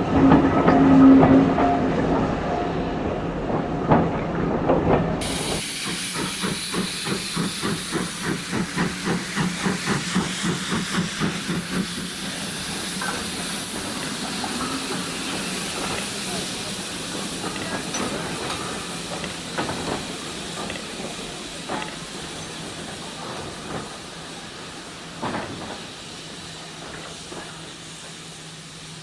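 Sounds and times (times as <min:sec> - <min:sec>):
rail noise with knocks: 0:03.0 - 0:28.2
steady hiss of steam: 0:05.2 - 0:29.0
steam locomotive exhaust beats: 0:05.2 - 0:29.0.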